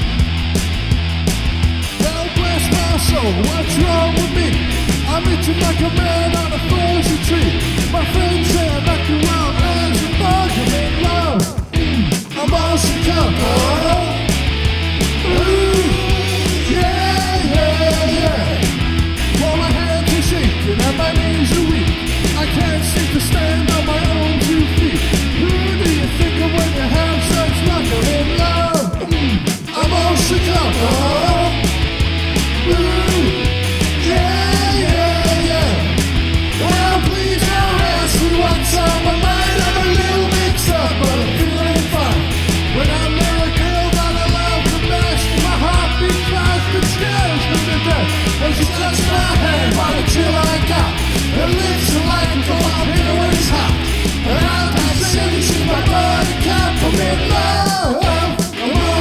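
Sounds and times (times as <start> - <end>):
loud punk rock band music: 0.0 - 59.0.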